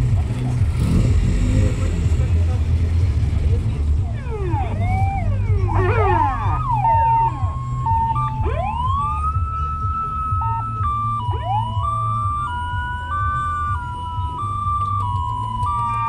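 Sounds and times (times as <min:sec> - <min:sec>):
emergency sirens wailing: 0:00.0 - 0:16.0
low engine rumble: 0:00.0 - 0:16.0.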